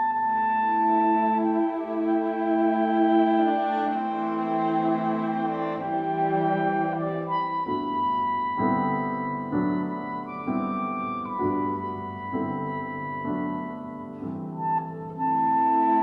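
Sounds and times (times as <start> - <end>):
slow instrumental music: 0.0 - 16.0.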